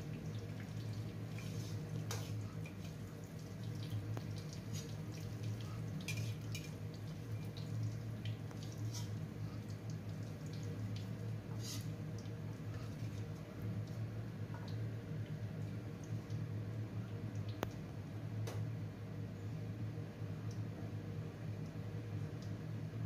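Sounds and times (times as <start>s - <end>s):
oil frying with crackles and pops: 0.0s - 23.0s
steady low hum: 0.0s - 23.0s.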